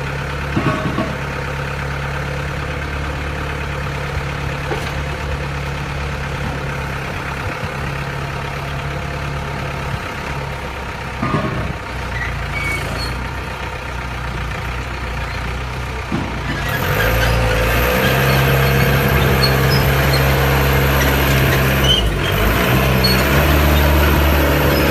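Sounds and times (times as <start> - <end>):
pile driver engine running: 0.0 - 24.9.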